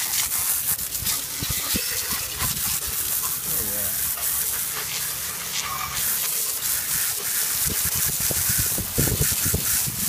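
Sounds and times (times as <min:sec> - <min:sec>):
hose water jet spraying: 0:00.0 - 0:10.0.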